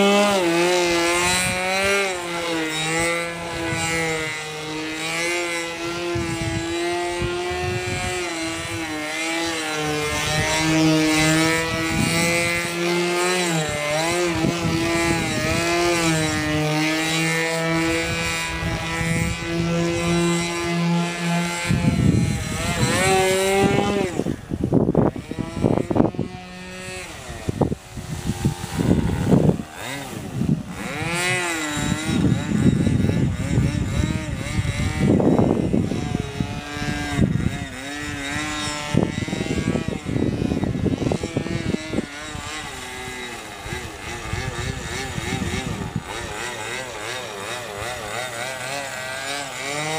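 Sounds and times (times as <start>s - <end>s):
wind buffeting microphone: 0.0s - 48.4s
model airplane engine buzzing: 0.0s - 49.9s.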